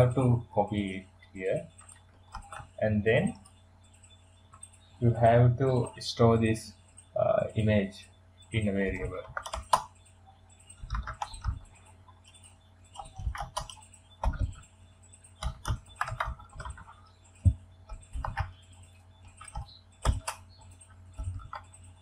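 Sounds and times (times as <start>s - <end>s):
typing on keyboard: 0.0s - 5.1s, 8.4s - 22.0s.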